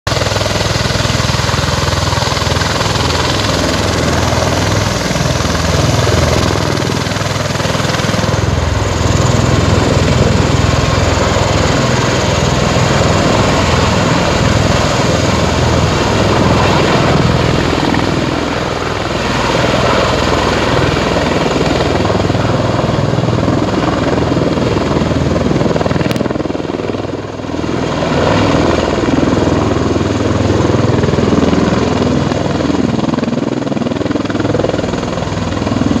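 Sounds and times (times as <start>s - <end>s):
tiltrotor aircraft hovering: 0.1s - 36.0s.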